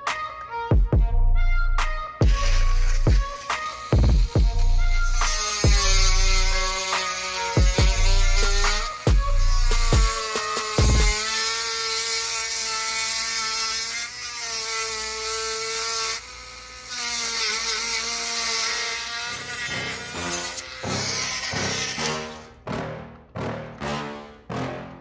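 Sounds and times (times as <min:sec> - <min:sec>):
small power tool whining: 0:02.1 - 0:22.5.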